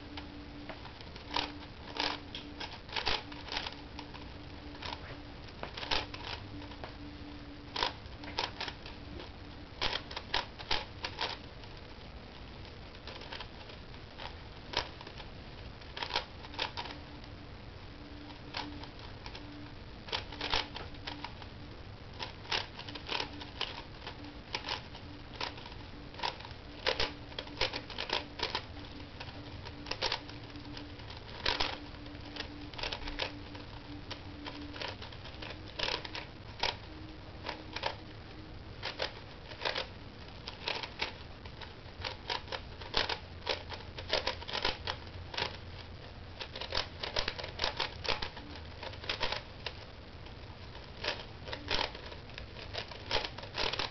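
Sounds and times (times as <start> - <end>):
puzzle cube clicking: 0.1 - 5.0, 5.7 - 7.0, 7.7 - 11.5, 13.0 - 15.3, 16.0 - 17.0, 18.2 - 21.4, 22.2 - 38.0, 38.8 - 45.8, 46.4 - 49.9, 50.8 - 53.9.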